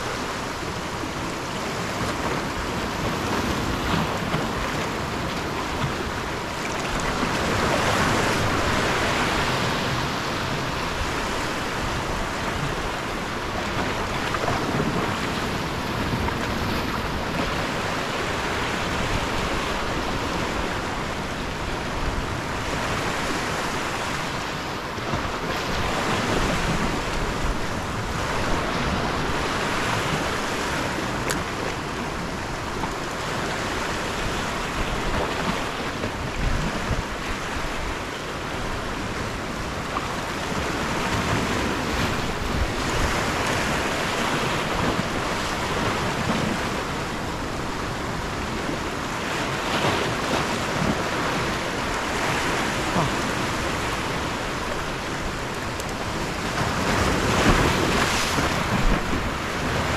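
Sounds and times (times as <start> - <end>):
ocean surf on rocky shore: 0.0 - 59.9
wind buffeting microphone: 0.0 - 59.9.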